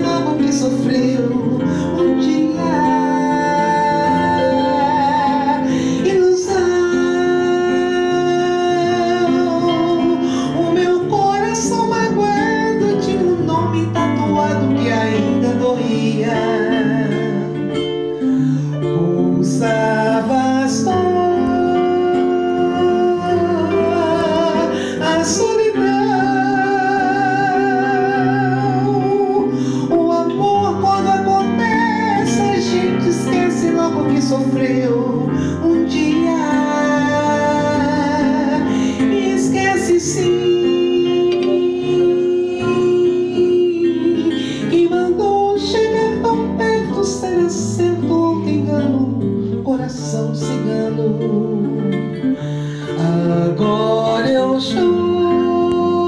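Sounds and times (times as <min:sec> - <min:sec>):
woman singing into microphone: 0:00.0 - 0:17.7, 0:19.0 - 0:51.8, 0:52.9 - 0:56.0
acoustic guitar: 0:00.0 - 0:56.0
electric keyboard chords: 0:00.0 - 0:56.0.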